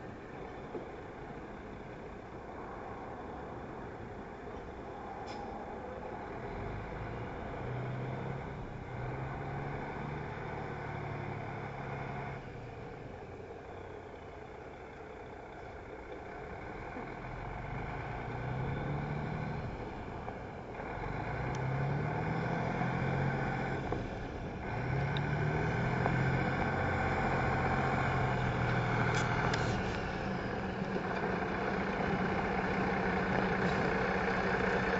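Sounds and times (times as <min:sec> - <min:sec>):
truck diesel engine revving: 0:06.1 - 0:34.9.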